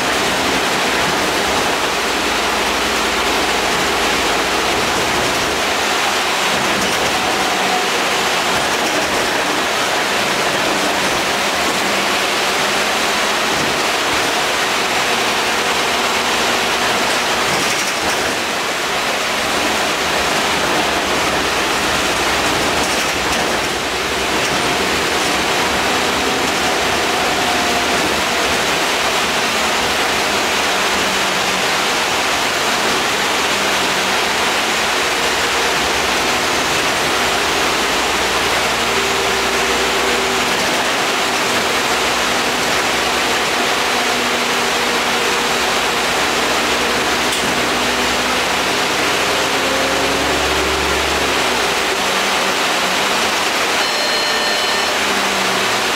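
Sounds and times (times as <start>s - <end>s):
bus engine and road noise: 0.0s - 55.9s.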